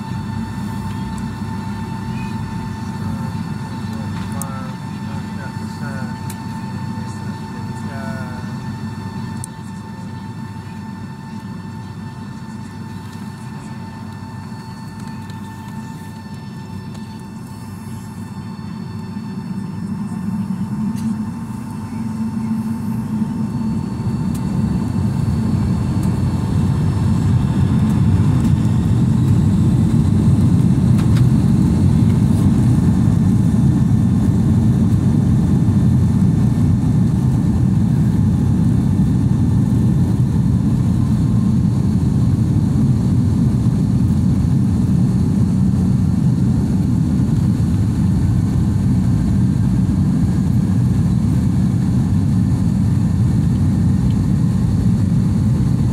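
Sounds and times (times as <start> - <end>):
jet engine roar in cabin: 0.0 - 55.9.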